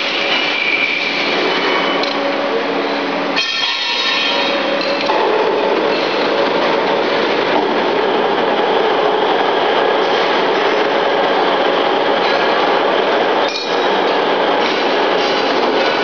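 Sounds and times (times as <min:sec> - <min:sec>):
loud rushing mechanical noise: 0:00.0 - 0:16.0.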